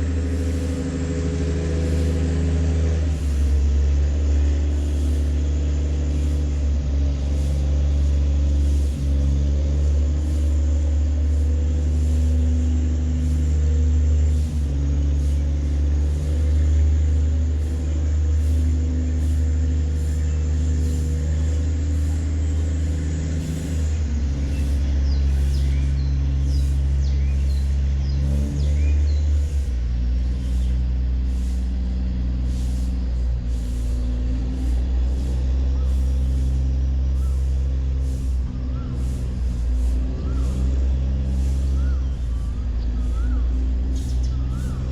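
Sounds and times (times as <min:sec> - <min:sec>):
boat engine deep drone: 0:00.0 - 0:44.9.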